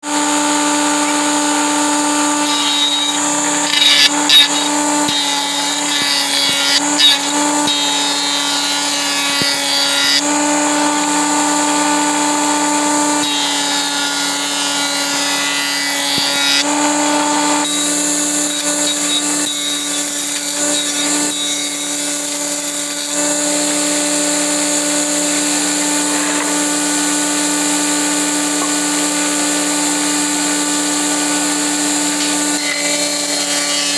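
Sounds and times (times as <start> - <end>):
power tool motor whining: 0.0 - 33.9.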